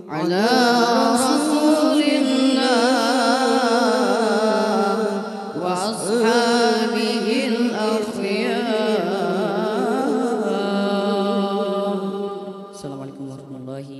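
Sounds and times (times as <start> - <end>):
boy chanting into a microphone: 0.0 - 13.9.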